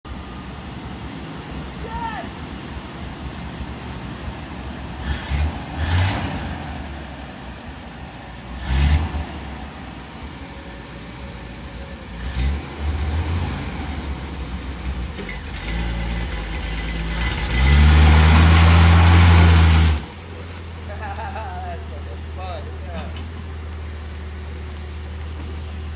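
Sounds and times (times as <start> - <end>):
pickup engine revving: 0.1 - 25.9.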